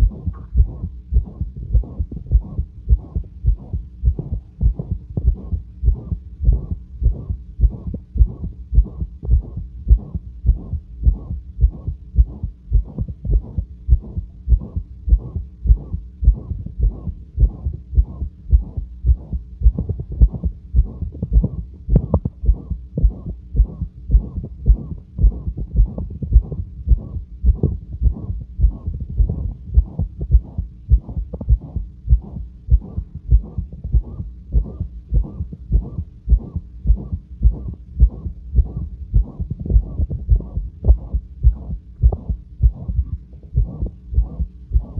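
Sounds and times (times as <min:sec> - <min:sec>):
heartbeat through a stethoscope: 0:00.0 - 0:44.9
whooshing heart murmur: 0:00.0 - 0:44.9.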